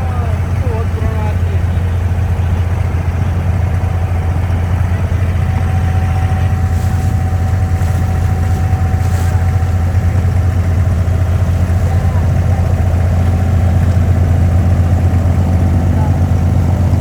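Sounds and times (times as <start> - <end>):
boat engine droning: 0.0 - 17.0
thin steady whine: 0.0 - 17.0.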